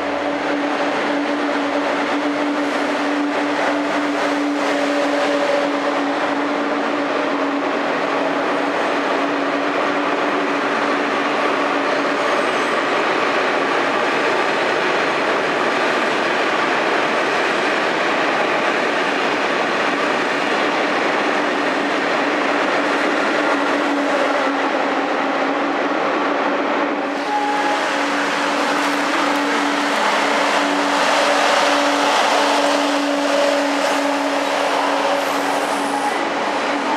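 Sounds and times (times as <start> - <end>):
train rolling rumble and hum: 0.0 - 36.9.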